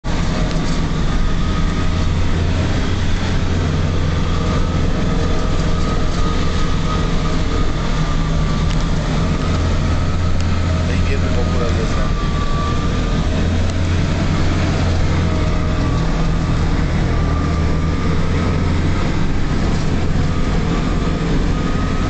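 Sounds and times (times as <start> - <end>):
vehicle engine drone: 0.0 - 22.0
thin steady whine: 0.1 - 22.0.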